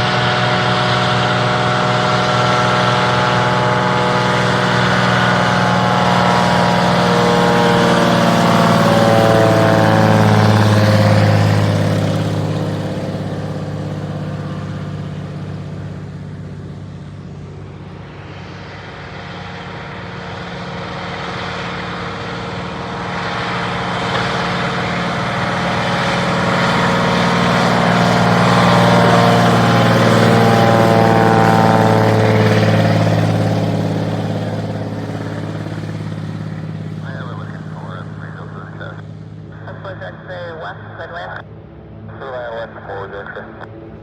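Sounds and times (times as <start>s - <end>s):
propeller plane engine passing: 0.0s - 44.0s.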